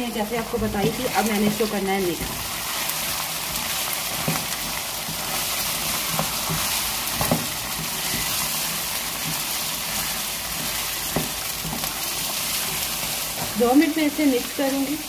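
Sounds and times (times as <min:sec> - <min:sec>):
meat sizzling in hot oil: 0:00.0 - 0:15.0
spatula knocking and scraping pan: 0:00.3 - 0:02.4, 0:03.0 - 0:13.9.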